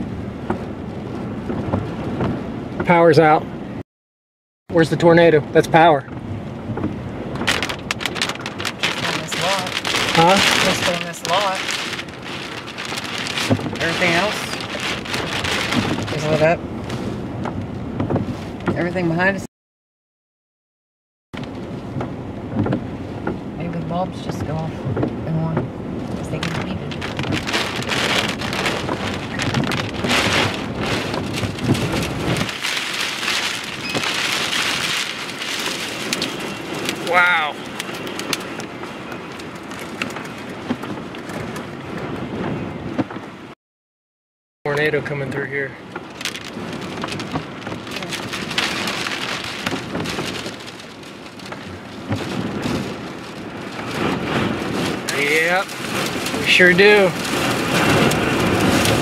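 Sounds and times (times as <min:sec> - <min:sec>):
heavy rain pelting a vehicle: 0:00.0 - 0:03.8, 0:04.8 - 0:19.4, 0:21.4 - 0:43.6, 0:44.7 - 0:59.0
low wind rumble: 0:00.0 - 0:03.8, 0:04.8 - 0:19.5, 0:21.4 - 0:43.6, 0:44.7 - 0:59.0.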